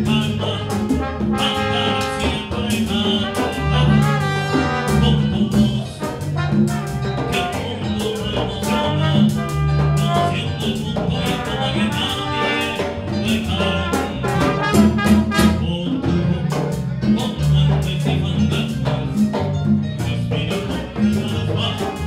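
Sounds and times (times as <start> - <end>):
person singing into microphone: 0.0 - 19.3, 20.0 - 22.0
steady bass line: 0.0 - 22.0.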